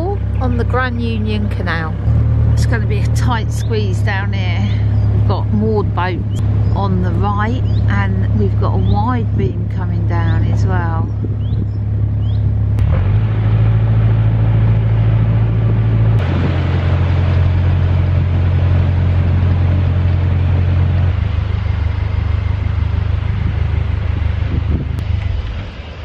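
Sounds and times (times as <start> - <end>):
boat diesel engine running: 0.0 - 26.0.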